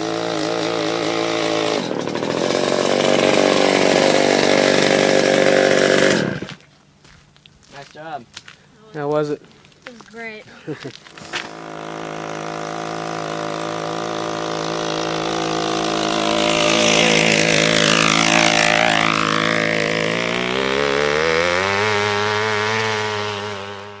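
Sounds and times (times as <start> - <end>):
two-stroke engine running and revving: 0.0 - 6.6, 11.1 - 24.0.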